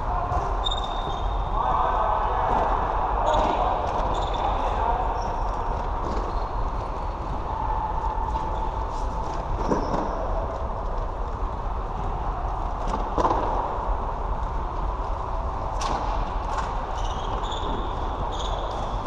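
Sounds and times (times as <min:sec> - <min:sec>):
low rumble of game noise: 0:00.0 - 0:19.0.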